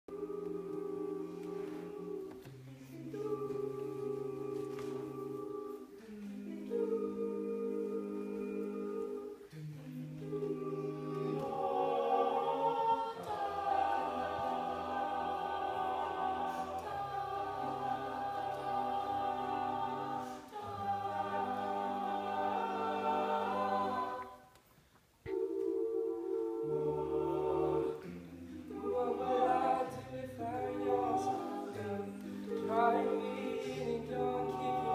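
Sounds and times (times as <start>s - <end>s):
male a cappella group singing: 0.1s - 24.4s, 25.3s - 34.9s.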